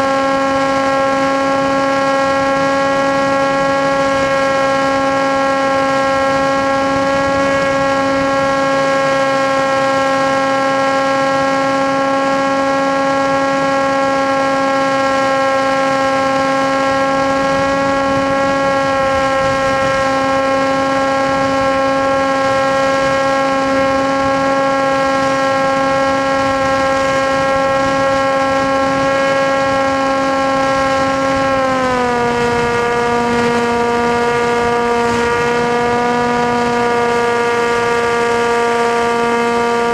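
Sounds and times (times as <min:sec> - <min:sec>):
motor and propeller whining: 0:00.0 - 0:39.9.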